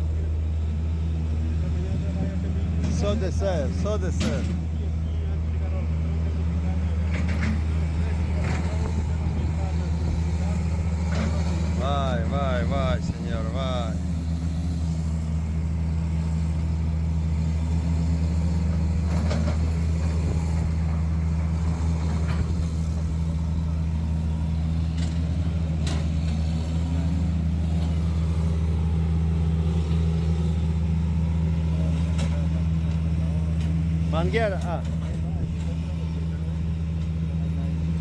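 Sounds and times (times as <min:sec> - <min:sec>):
large engine droning: 0:00.0 - 0:38.0.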